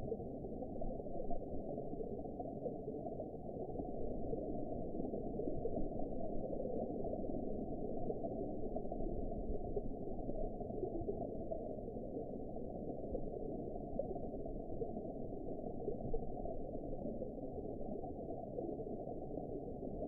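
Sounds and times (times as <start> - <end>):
muffled underwater water noise: 0.0 - 20.0.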